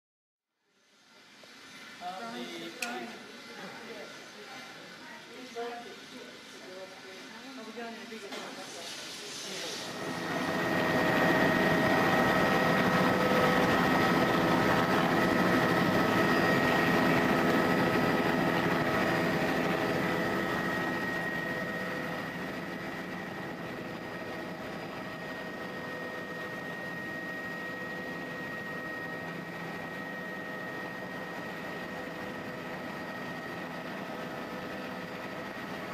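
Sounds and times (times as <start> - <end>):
helicopter turbine whine: 0.8 - 8.6, 9.6 - 35.9.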